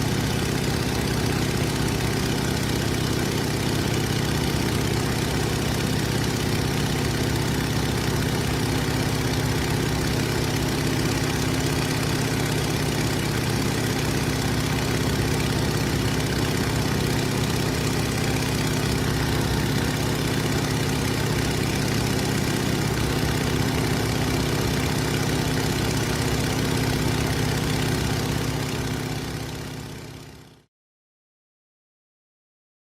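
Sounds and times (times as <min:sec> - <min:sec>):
biplane engine drone: 0:00.0 - 0:29.3
propeller noise: 0:00.0 - 0:30.3.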